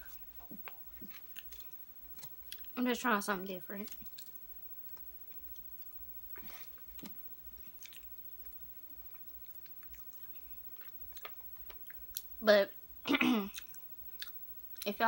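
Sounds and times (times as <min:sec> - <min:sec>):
person chewing pasta: 0:00.0 - 0:02.8, 0:03.8 - 0:12.4, 0:13.5 - 0:14.9.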